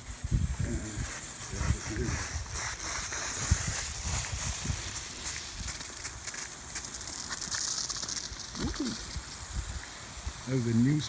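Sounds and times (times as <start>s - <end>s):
water hissing from sprinkler: 0.0s - 11.0s.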